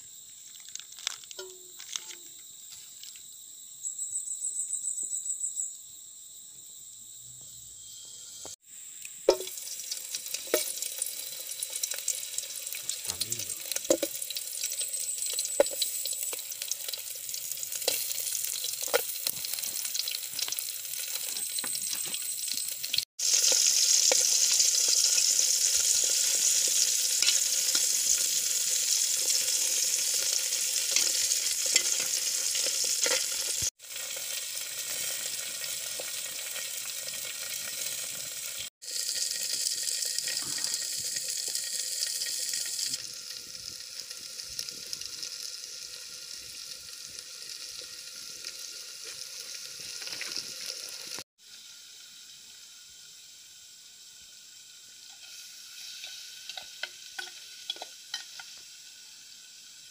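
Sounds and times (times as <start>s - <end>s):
oil sizzling in a pot: 7.8s - 59.9s.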